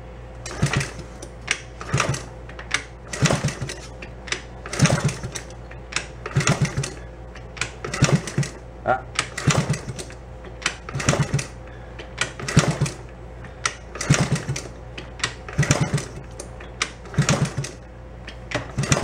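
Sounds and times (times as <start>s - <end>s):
engine chugging without starting: 0.4s - 19.0s
kick lever clatter: 0.5s - 19.0s.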